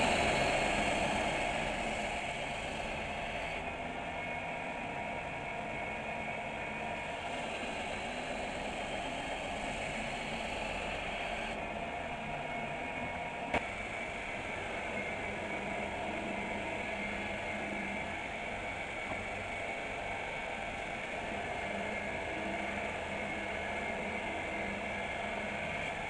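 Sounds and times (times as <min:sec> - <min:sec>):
steady mechanical running noise: 0:00.0 - 0:26.0.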